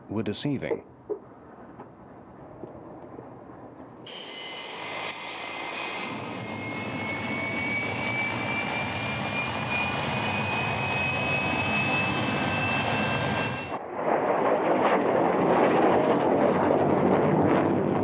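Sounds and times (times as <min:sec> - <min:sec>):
jet engine roar with whine: 0:01.8 - 0:18.0.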